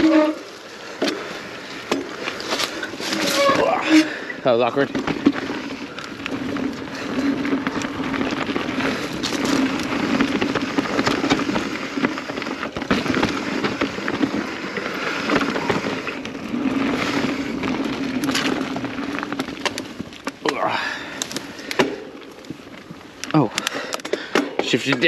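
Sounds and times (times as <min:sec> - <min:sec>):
bike tyres rolling over rocks: 0:00.0 - 0:25.0.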